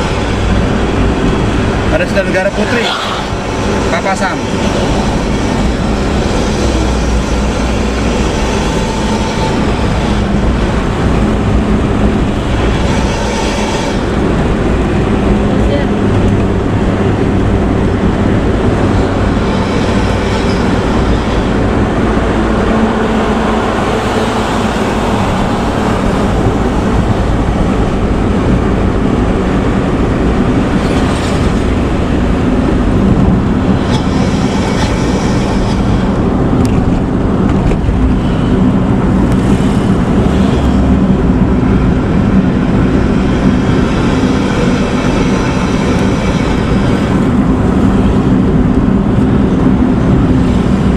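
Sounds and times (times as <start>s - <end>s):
bus engine and exhaust drone: 0.0s - 50.9s.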